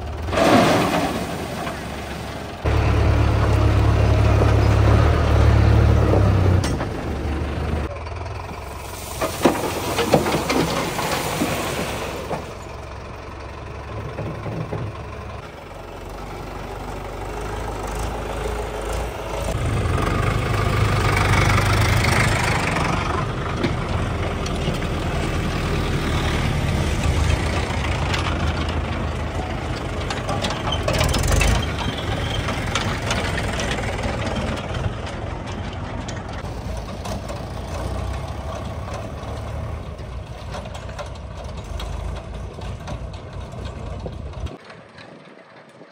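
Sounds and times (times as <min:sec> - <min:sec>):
diesel tractor engine running: 0:00.0 - 0:45.8.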